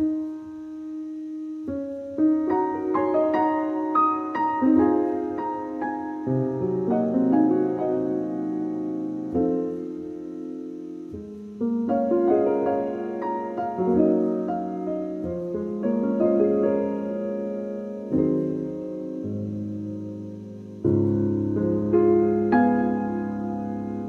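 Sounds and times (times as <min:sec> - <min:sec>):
soft piano chords: 0:00.0 - 0:24.0.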